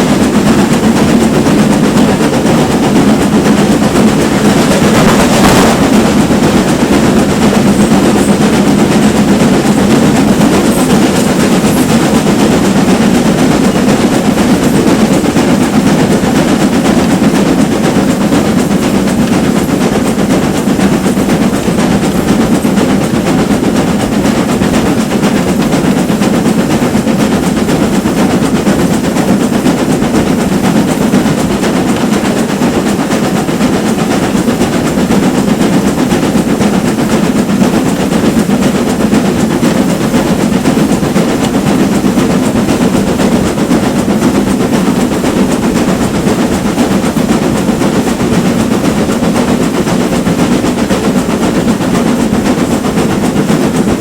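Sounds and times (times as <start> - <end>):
steam locomotive exhaust: 0.0 - 54.0
train running noise: 0.0 - 54.0.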